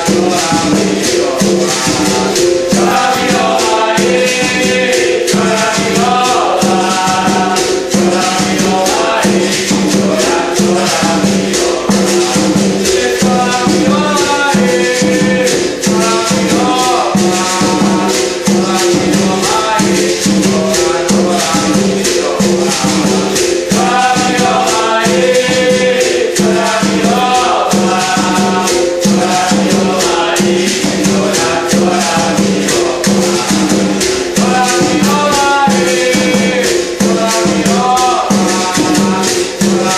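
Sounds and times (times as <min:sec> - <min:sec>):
berimbau rhythm: 0:00.0 - 0:39.9
hand drum: 0:00.0 - 0:39.9
person singing: 0:00.0 - 0:39.9
shaker rattling: 0:00.0 - 0:39.9.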